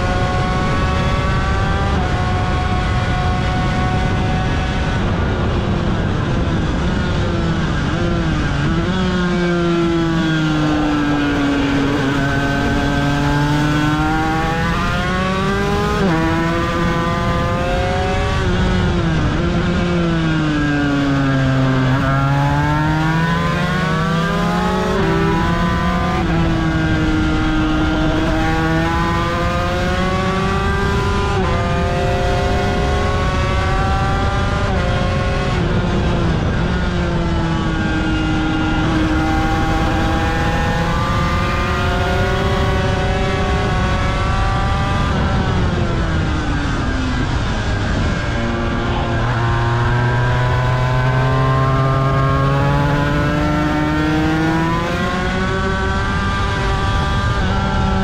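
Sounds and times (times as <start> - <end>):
racing motorcycle engine: 0.0 - 58.0.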